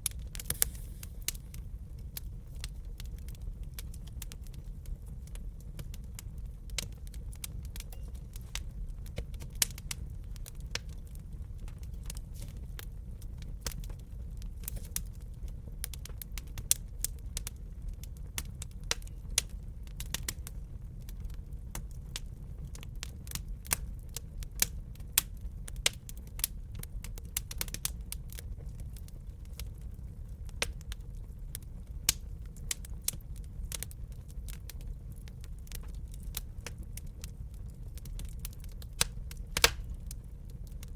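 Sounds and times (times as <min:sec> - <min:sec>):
low rumble of fire: 0:00.0 - 0:40.9
wood fire crackling and popping: 0:00.0 - 0:40.9.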